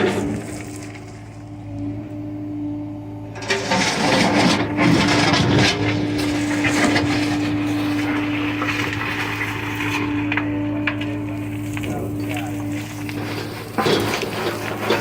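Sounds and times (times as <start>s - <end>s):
diesel engine humming: 0.0s - 15.0s
excavator scraping and rattling: 0.0s - 15.0s.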